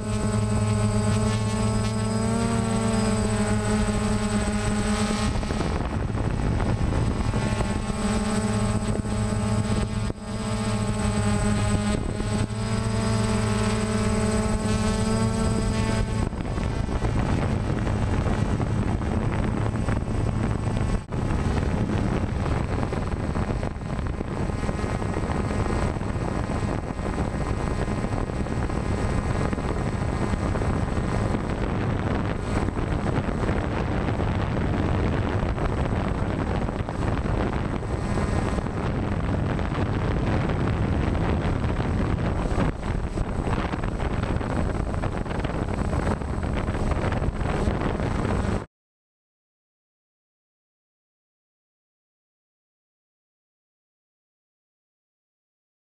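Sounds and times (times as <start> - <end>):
drone propellers whirring: 0.0 - 48.7
wind on microphone: 0.0 - 48.7.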